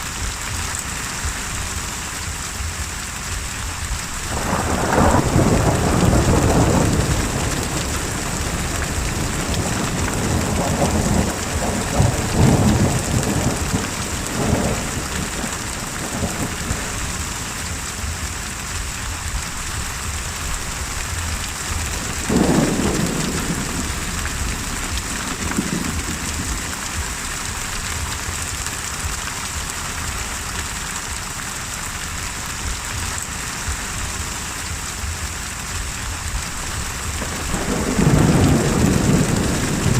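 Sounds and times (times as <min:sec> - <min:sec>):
heavy rain hissing: 0:00.0 - 0:39.9
thunder rumbling: 0:01.2 - 0:29.7, 0:32.1 - 0:39.9.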